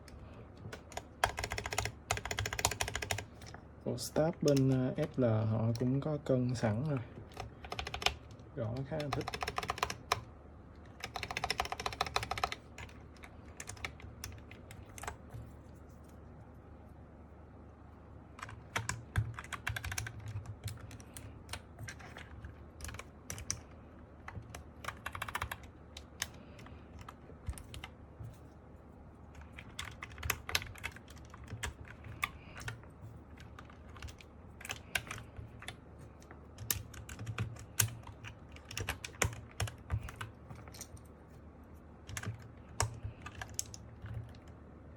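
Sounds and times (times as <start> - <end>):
mechanical keyboard typing: 0.0 - 15.5, 18.4 - 28.0, 29.3 - 41.0, 42.0 - 44.6.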